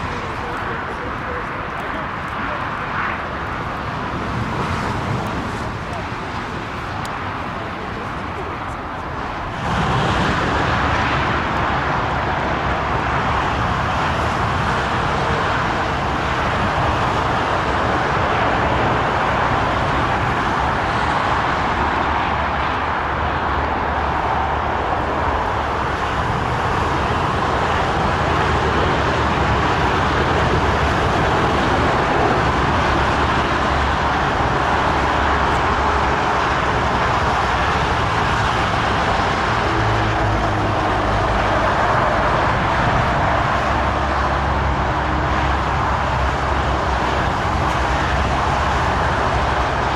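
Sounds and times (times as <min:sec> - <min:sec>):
jet engines rushing: 0:00.0 - 0:49.9.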